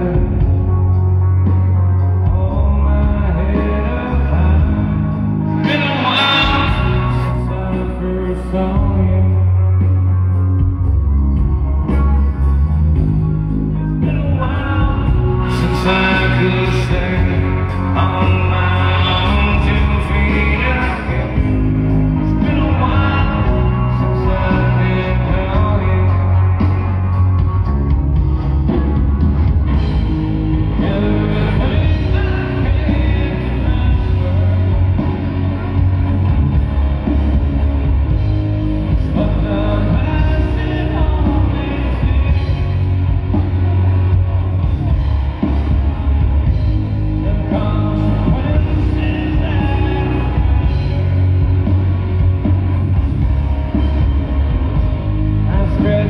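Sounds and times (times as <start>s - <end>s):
bass guitar: 0.0s - 56.0s
drums: 0.0s - 56.0s
electric guitar: 0.0s - 56.0s
male singer: 0.0s - 56.0s.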